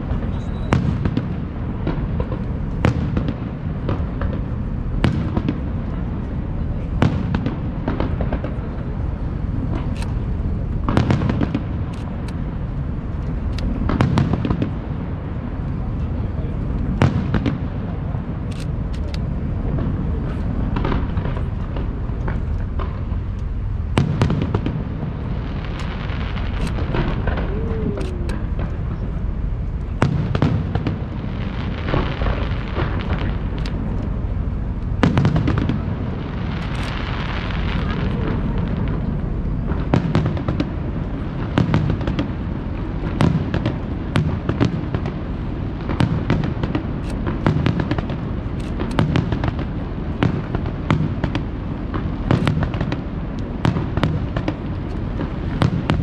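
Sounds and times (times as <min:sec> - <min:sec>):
fireworks bangs with echoing rumble: 0:00.0 - 0:56.0
fireworks crackling: 0:00.0 - 0:56.0.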